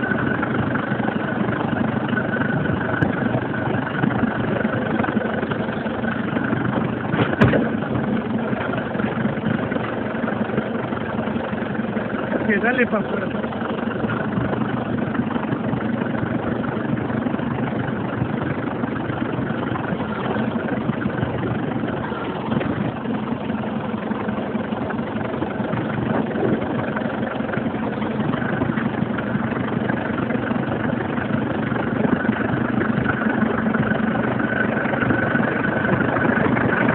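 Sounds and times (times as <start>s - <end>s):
high hydraulic whine: 0.0s - 36.9s
tractor engine running: 0.0s - 36.9s.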